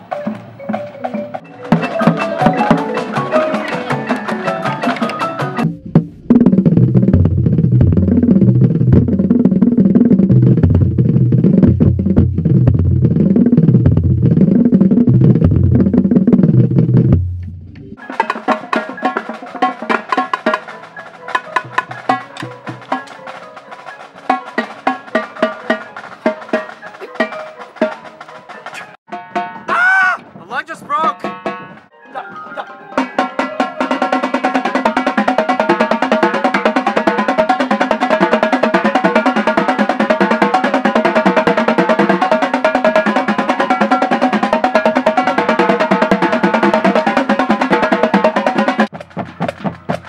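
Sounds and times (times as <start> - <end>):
marching snare and tenor drums: 0.0 - 17.3, 18.0 - 31.8, 33.0 - 50.0
marching bass drums: 0.0 - 23.2, 33.2 - 50.0.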